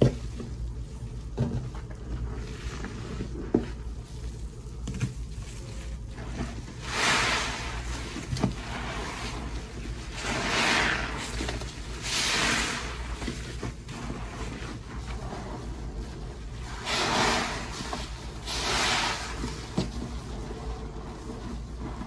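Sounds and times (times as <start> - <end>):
foam squishing: 0.0 - 22.0
wet sponge squishes: 0.0 - 22.0.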